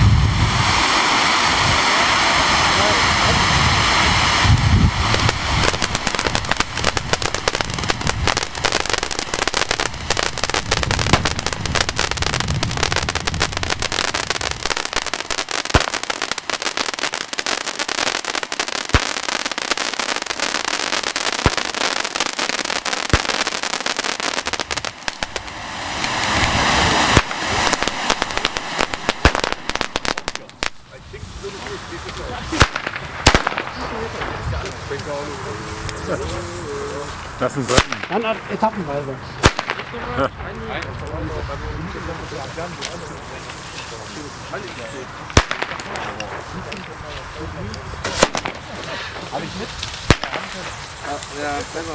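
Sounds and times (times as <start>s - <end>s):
firework bangs: 0.0s - 35.4s, 37.5s - 40.9s, 42.0s - 51.9s
fireworks crackling: 0.0s - 51.9s
rising firework hiss: 0.0s - 51.9s.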